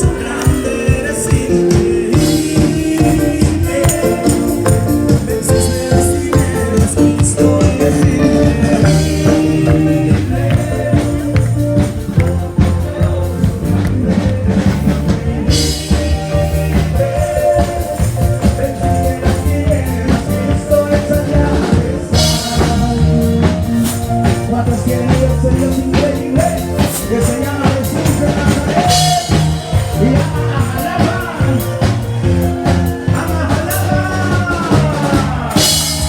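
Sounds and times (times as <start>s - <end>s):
live band playing upbeat song: 0.0s - 36.0s.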